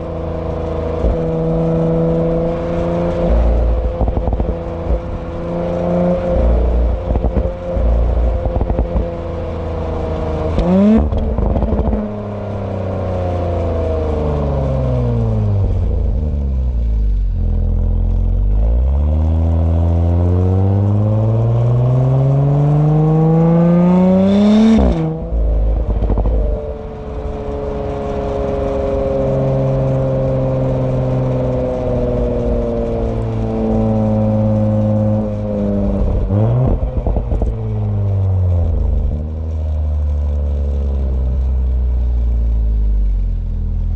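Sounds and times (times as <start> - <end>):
car engine exhaust: 0.0 - 43.9
exhaust crackles: 0.0 - 43.9.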